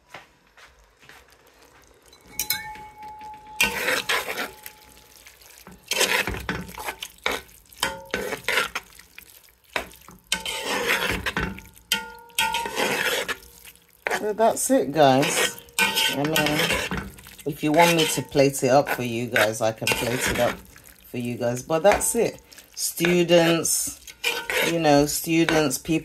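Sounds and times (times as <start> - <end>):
utensil scraping and clattering in pan: 1.6 - 26.0.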